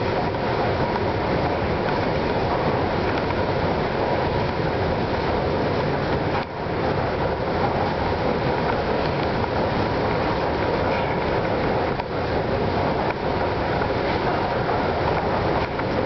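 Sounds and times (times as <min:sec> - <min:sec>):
moving walkway running: 0:00.0 - 0:16.0.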